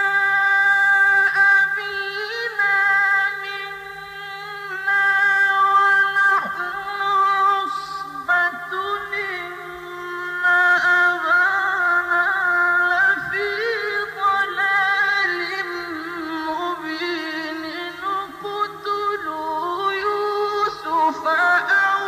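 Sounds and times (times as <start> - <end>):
faint steady recording hum: 0.0 - 22.0
man chanting recitation: 0.0 - 22.0.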